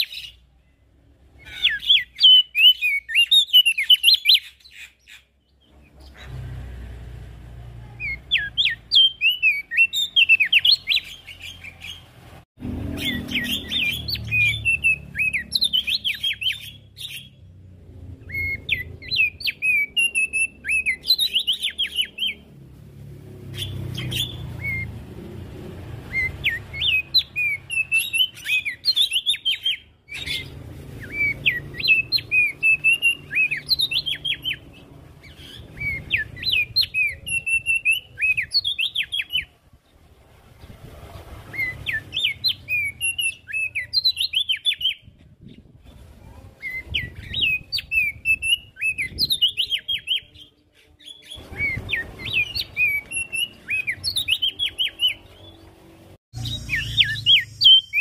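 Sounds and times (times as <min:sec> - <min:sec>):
bird singing jumbled chirps: 0:00.0 - 0:06.4, 0:07.8 - 0:12.2, 0:12.8 - 0:22.7, 0:23.4 - 0:25.4, 0:26.0 - 0:58.0.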